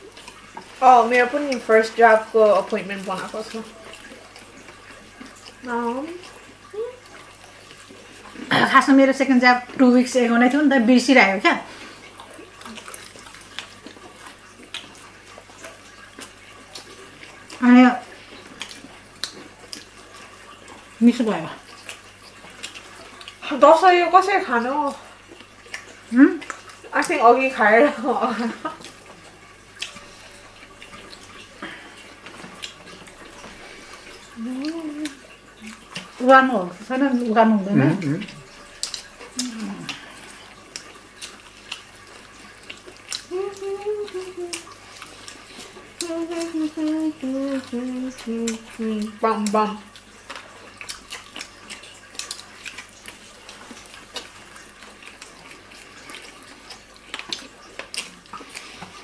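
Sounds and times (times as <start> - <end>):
people chewing fried chicken: 0.0 - 59.0.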